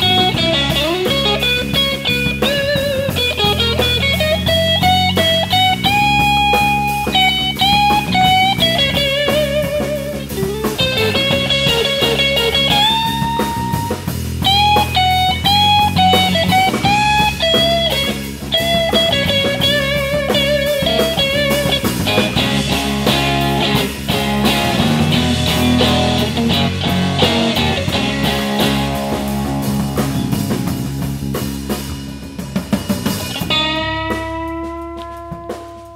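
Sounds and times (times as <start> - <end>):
electric guitar solo: 0.0 - 31.4, 33.2 - 35.9
bass guitar: 0.0 - 35.9
drum kit: 0.0 - 35.9.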